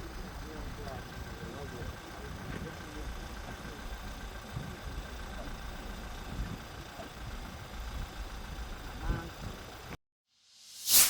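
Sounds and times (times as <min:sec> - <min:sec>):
engine idling rumble: 0:00.0 - 0:10.0.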